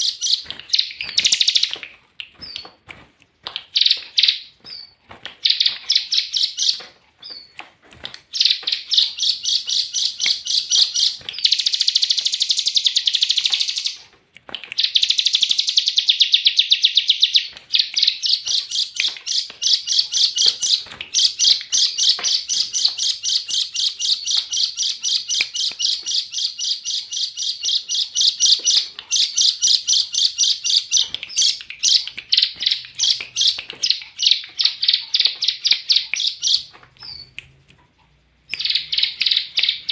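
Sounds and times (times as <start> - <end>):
songbird singing chattering song: 0.0 - 2.8, 3.4 - 7.6, 8.2 - 37.7, 38.4 - 39.9.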